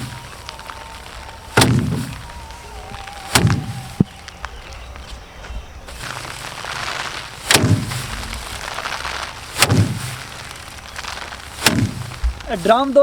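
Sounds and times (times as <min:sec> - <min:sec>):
rice stalks striking a drum: 0:00.0 - 0:05.3, 0:05.9 - 0:13.0
straw rustling: 0:00.0 - 0:13.0.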